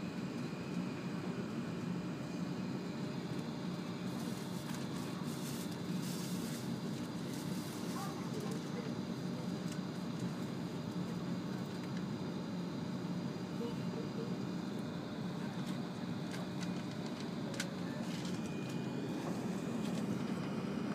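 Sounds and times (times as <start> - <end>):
train cabin low hum: 0.0 - 20.9.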